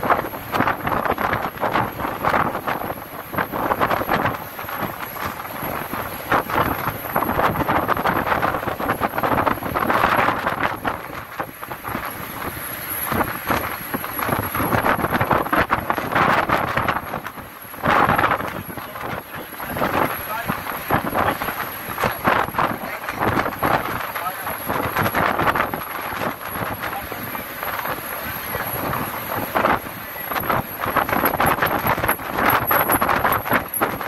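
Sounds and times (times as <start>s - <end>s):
road noise: 0.0s - 34.0s
wind buffeting microphone: 0.0s - 34.0s.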